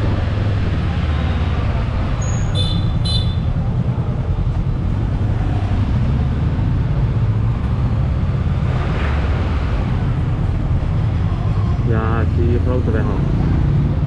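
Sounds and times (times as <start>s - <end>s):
motorbike engine rumbling: 0.0s - 13.0s.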